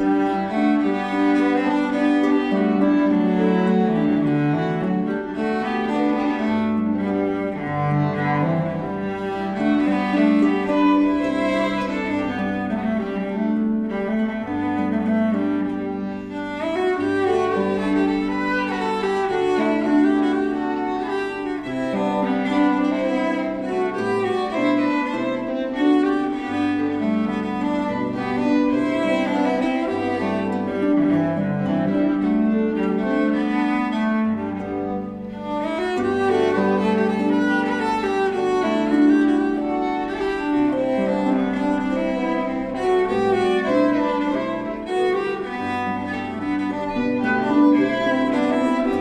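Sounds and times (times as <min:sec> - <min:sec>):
slow string music: 0:00.0 - 0:49.0.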